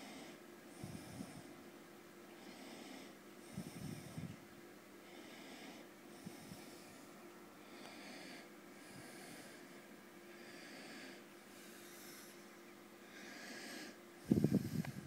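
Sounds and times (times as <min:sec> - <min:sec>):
breathing at microphone: 0:00.0 - 0:01.5, 0:02.4 - 0:04.4, 0:05.0 - 0:07.0, 0:07.6 - 0:15.0
low steady hum: 0:00.0 - 0:15.0.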